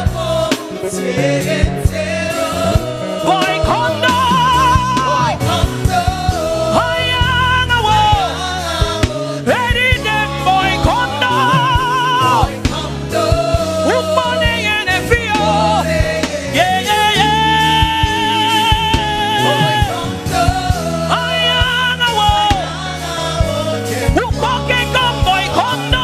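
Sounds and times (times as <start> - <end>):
band playing gospel music: 0.0 - 26.0.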